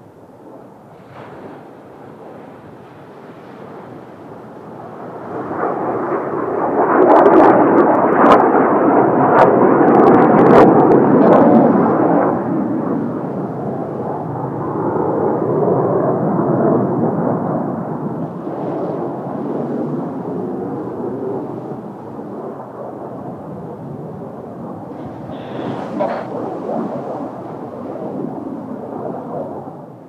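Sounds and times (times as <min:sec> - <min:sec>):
jet engine crackles: 0:00.0 - 0:15.6, 0:16.6 - 0:30.0
jet flying past: 0:00.0 - 0:30.0.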